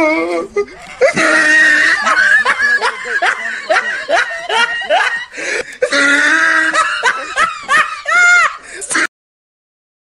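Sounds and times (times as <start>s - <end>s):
person snickering laughter: 0.4s - 9.1s.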